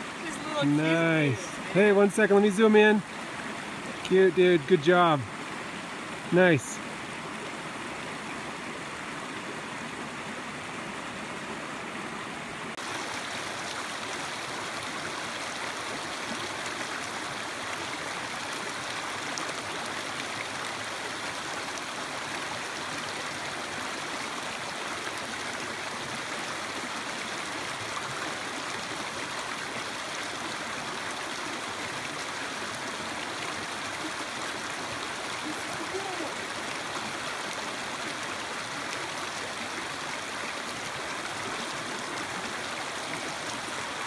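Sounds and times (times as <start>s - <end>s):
creek water rushing over rocks: 0.0s - 44.0s.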